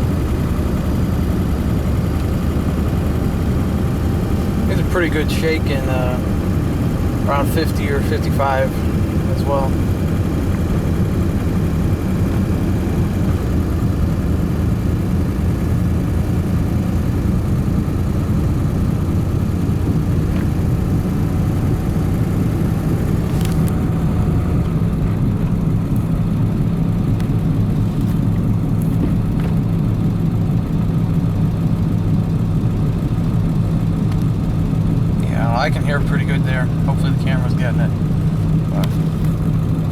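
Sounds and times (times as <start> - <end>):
engine and road drone: 0.0 - 39.9.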